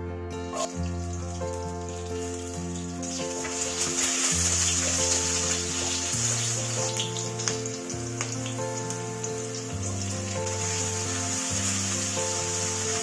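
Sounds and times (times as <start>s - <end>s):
background music with bass line: 0.0s - 13.0s
oil sizzling in a wok: 0.7s - 13.0s.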